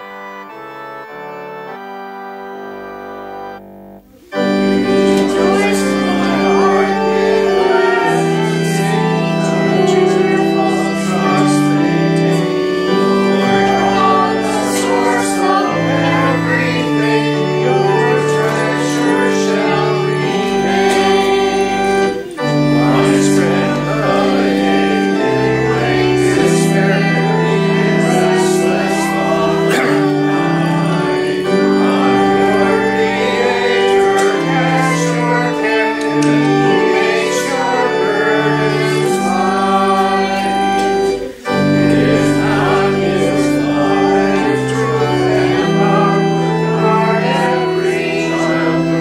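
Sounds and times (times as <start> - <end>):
congregation singing a hymn: 0.0 - 49.0
organ accompaniment: 0.0 - 49.0.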